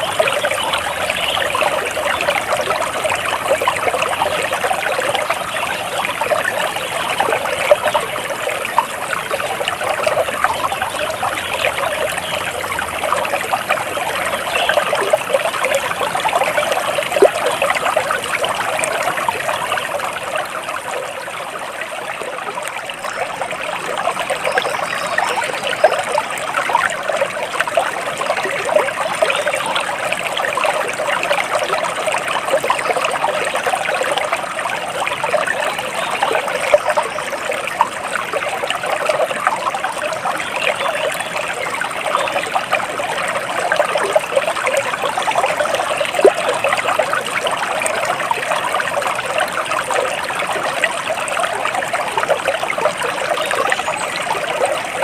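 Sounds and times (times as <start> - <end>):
flowing water trickling: 0.0 - 55.0.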